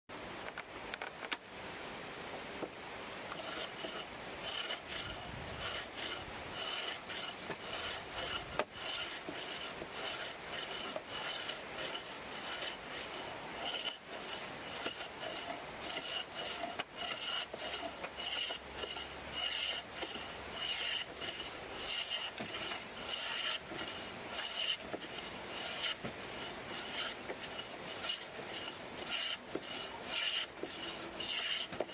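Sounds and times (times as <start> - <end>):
hand plane shaving wood: 3.2 - 31.9.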